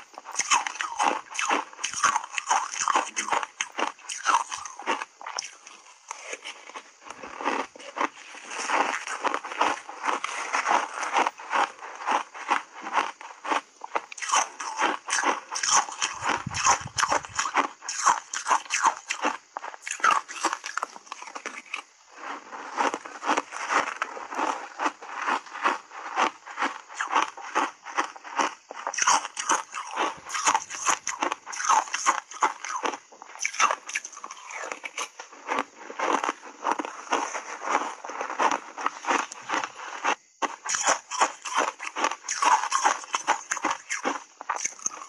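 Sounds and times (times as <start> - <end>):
crunching and chewing shaved ice: 0.0 - 45.0.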